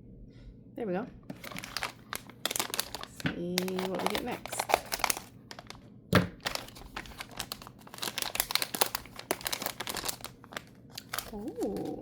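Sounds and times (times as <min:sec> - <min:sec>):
plastic packaging crinkling: 0:01.3 - 0:12.0.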